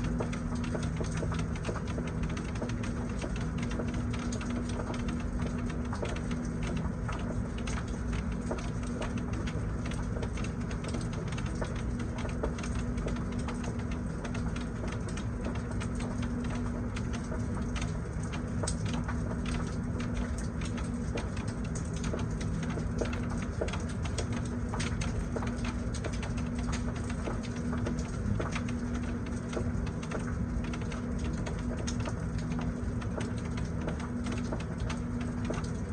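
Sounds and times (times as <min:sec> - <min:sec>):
drops pattering and dripping: 0:00.0 - 0:35.9
low steady hum: 0:00.0 - 0:35.9
rain falling: 0:00.0 - 0:35.9.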